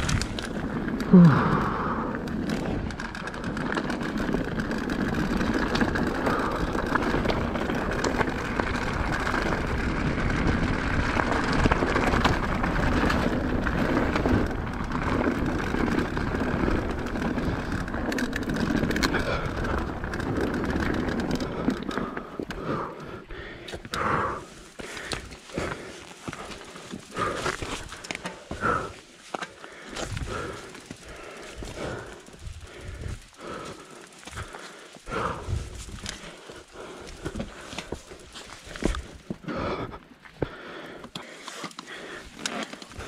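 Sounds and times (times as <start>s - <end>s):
bike rattling over bumps: 0.0s - 43.0s
tyres rolling over dirt and stones: 0.0s - 43.0s.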